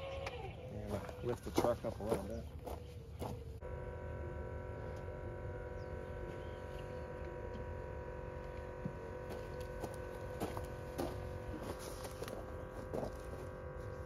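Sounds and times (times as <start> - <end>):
air compressor humming: 1.3 - 14.0.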